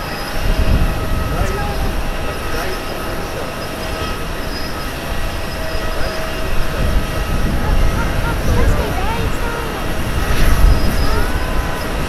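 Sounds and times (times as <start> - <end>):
jet engines rumbling with whine: 0.0 - 12.0.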